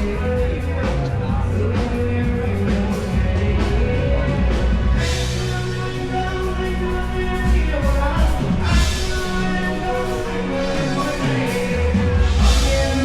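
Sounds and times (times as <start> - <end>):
music with beat and bass: 0.0 - 13.0.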